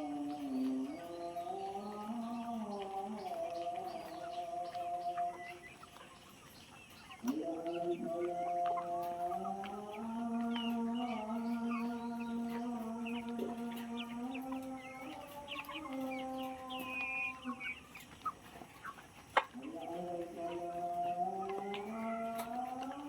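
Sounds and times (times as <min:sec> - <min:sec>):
chickens clucking and squawking: 0:00.0 - 0:23.0.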